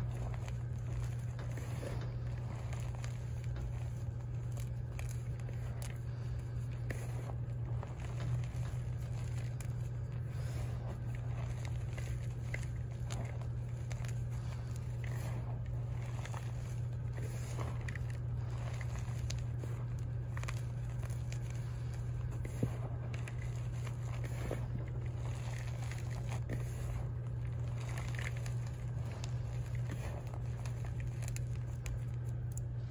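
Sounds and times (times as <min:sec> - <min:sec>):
hands crushing chalk: 0:00.0 - 0:32.9
steady low hum: 0:00.0 - 0:32.9.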